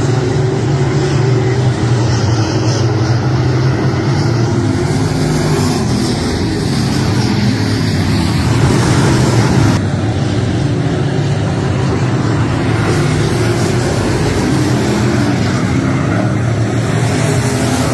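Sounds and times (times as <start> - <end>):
race car engine running: 0.0 - 17.9.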